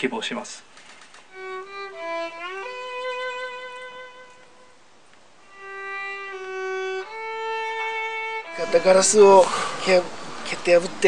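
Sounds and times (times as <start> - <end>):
solo violin melody: 1.3 - 10.2.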